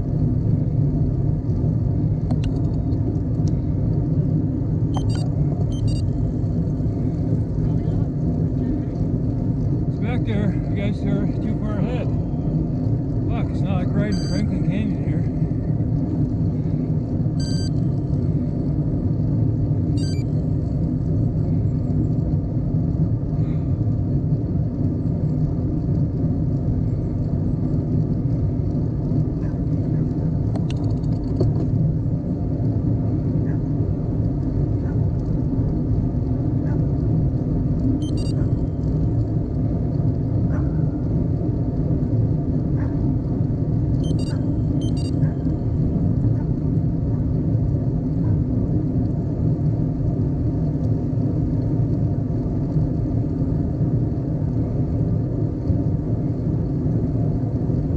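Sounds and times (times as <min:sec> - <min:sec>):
wind and road noise: 0:00.0 - 0:57.9.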